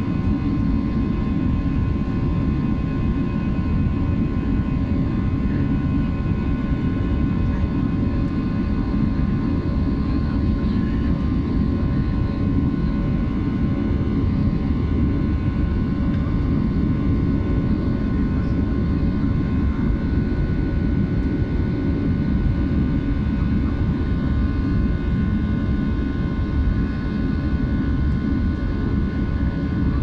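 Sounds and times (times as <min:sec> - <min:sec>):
jet engine cabin rumble: 0:00.0 - 0:30.0
jet engine whine: 0:00.0 - 0:30.0.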